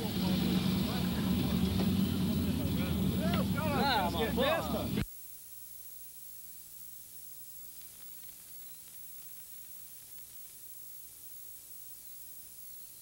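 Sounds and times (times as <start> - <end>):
low electrical hum: 0.0 - 13.0
video tape hiss: 0.0 - 13.0.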